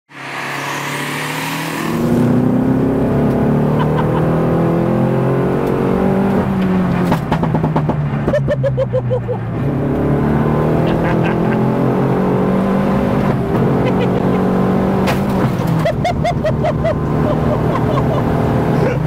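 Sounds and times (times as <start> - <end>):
race car engine revving: 0.1 - 8.6, 9.2 - 19.0.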